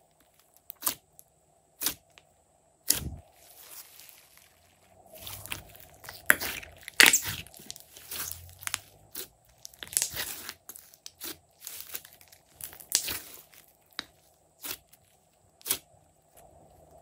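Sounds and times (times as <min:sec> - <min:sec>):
slime squishing by hand: 0:02.8 - 0:17.0.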